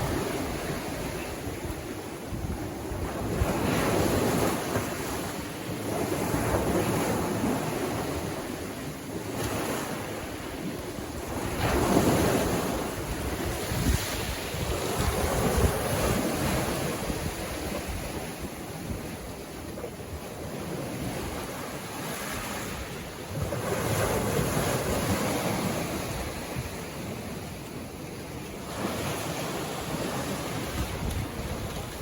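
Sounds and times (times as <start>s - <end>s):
sea waves breaking on beach: 0.0s - 32.0s.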